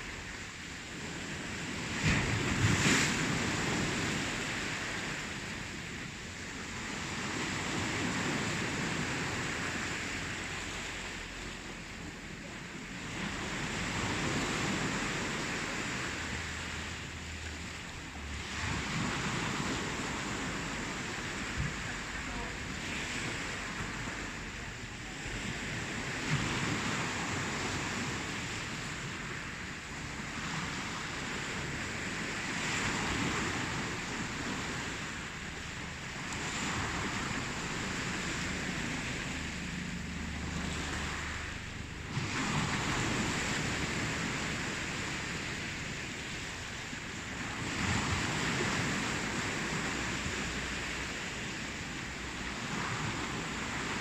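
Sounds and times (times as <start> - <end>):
ocean waves: 0.0 - 54.0.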